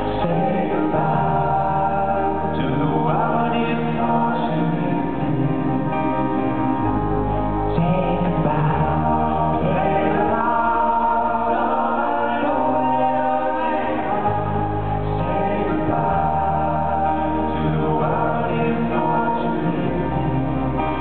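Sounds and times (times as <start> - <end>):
man singing lead: 0.0 - 6.4, 7.6 - 21.0
acoustic guitar: 0.0 - 21.0
male vocal group harmonizing: 0.0 - 21.0.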